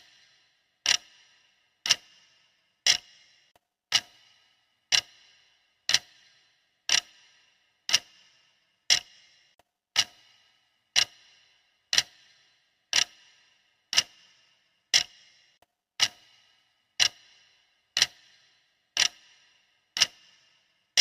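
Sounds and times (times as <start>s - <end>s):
clock ticking: 0.0s - 21.0s.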